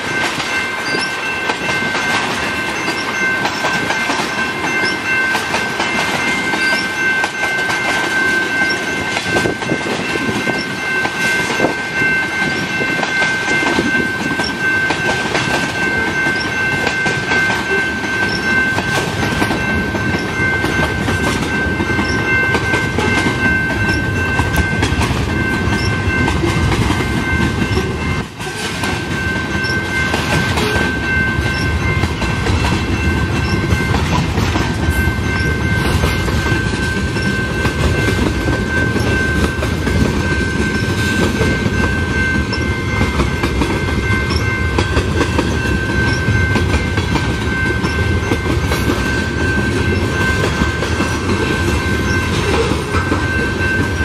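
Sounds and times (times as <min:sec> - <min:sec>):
freight train rolling past: 0:00.0 - 0:54.0
steady high ringing tone: 0:00.0 - 0:54.0
wheels clacking over rail joints: 0:00.0 - 0:54.0.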